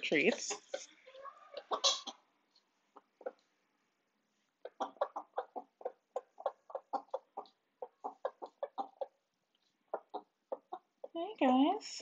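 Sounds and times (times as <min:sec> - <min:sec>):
chickens clucking: 0:00.0 - 0:03.6, 0:04.5 - 0:11.4.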